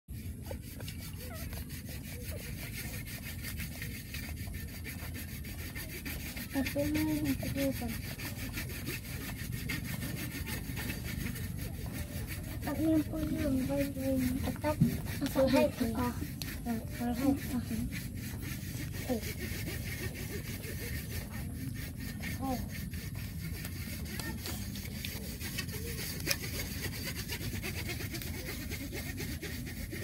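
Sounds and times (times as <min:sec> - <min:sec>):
puppies suckling: 0:00.2 - 0:03.1, 0:05.8 - 0:26.9.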